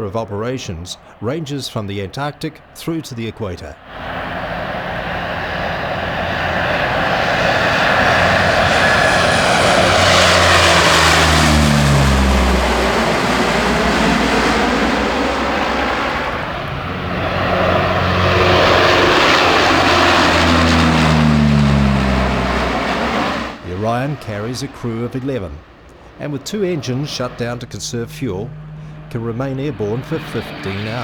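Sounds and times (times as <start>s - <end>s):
turboprop aircraft flying past: 0.0s - 31.0s.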